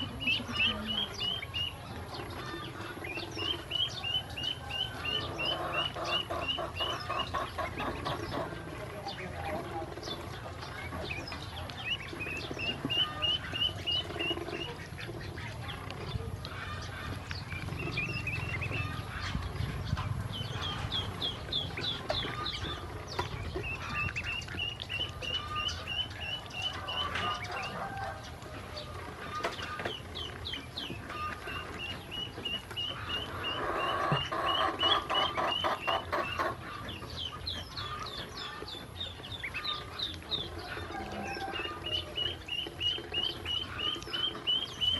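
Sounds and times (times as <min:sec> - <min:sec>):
ducklings peeping: 0:00.0 - 0:44.9.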